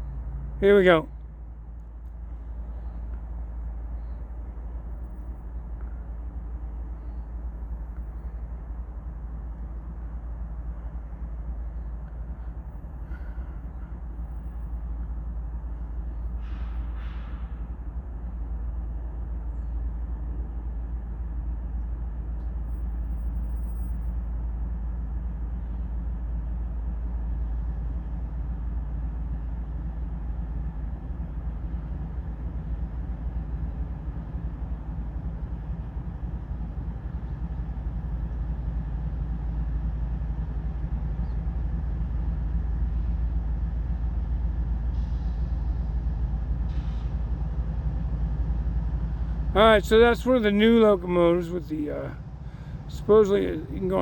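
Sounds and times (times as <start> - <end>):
freight train passing slowly: 0.0 - 54.0.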